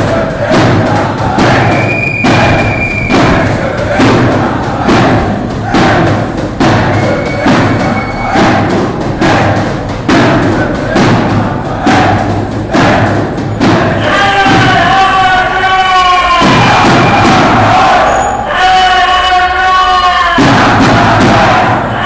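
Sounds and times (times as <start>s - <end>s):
crowd chanting: 0.0s - 22.0s
drum beaten in marching rhythm: 0.0s - 22.0s.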